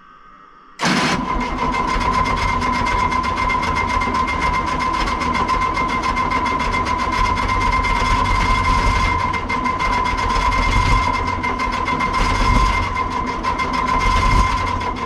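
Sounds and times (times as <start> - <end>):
diesel engine cranking: 0.8 - 15.0
starter whine: 0.8 - 15.0.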